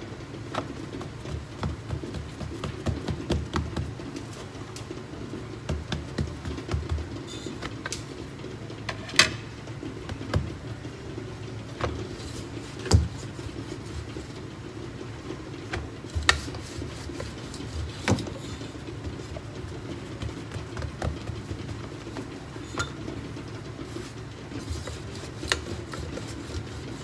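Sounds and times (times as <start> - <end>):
dough rolling rubbing and thumps: 0.0 - 27.0
steady low hum: 0.0 - 27.0.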